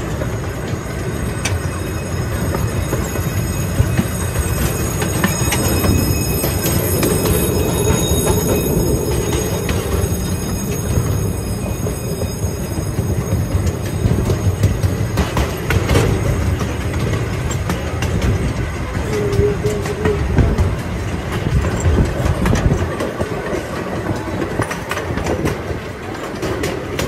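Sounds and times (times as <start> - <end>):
rail clicks: 0.0 - 27.0
train car wheels rumbling: 0.0 - 27.0.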